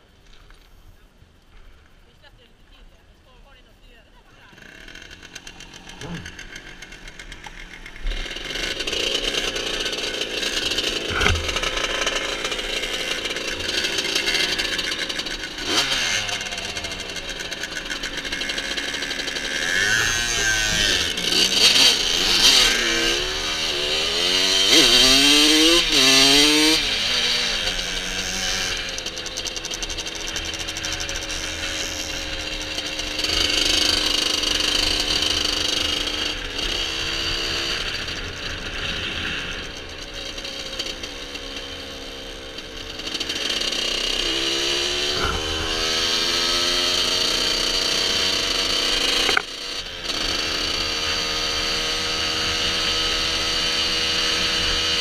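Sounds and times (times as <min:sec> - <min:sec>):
moped engine revving: 0:04.2 - 0:55.0.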